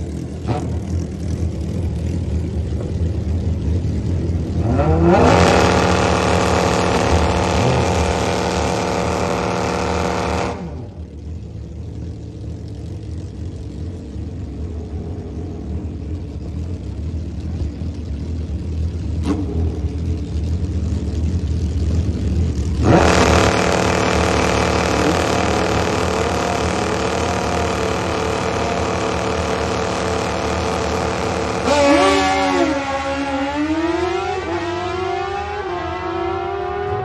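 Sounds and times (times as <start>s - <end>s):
low engine rumble: 0.0s - 31.7s
high-revving motorcycle engine: 0.0s - 37.0s.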